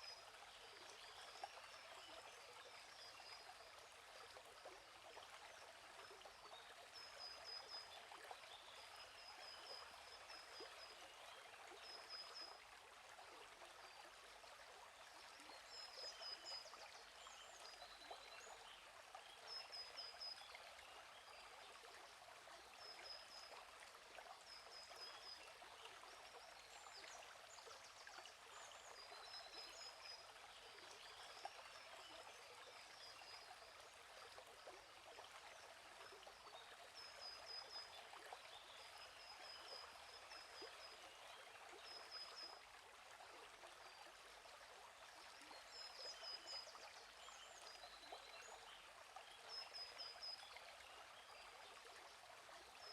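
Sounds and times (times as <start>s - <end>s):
gently flowing stream: 0.0s - 52.9s.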